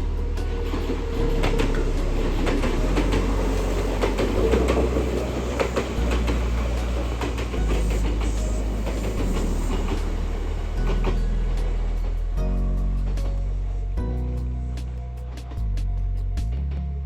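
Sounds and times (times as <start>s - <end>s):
wheels clattering over rails: 0.0s - 14.0s
electric train humming: 0.0s - 15.8s.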